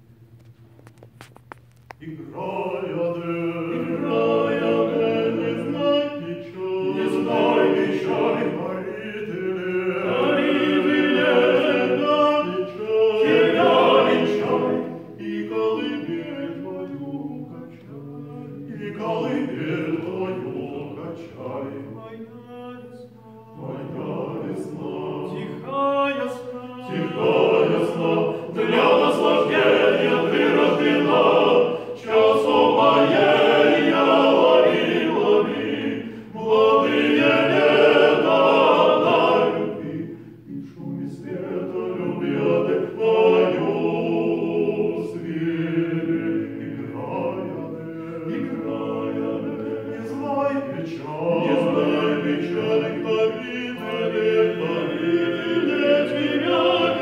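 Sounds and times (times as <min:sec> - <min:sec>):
male vocal quartet singing: 0:02.0 - 0:57.0.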